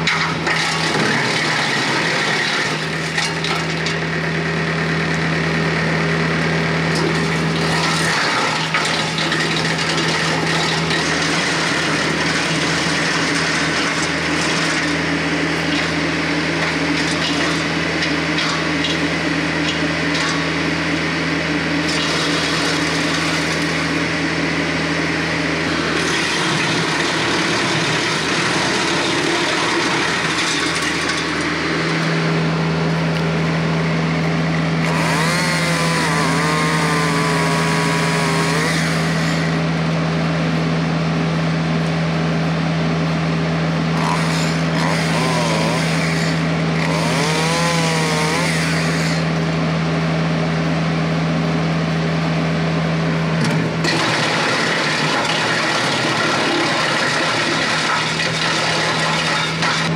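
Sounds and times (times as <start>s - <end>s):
chainsaw engine: 0.0s - 59.9s
tractor driving wood chipper: 0.0s - 59.9s.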